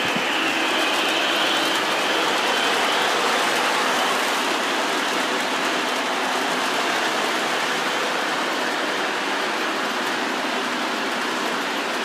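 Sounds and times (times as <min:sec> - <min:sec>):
model train wheels on rails: 0:00.0 - 0:12.0.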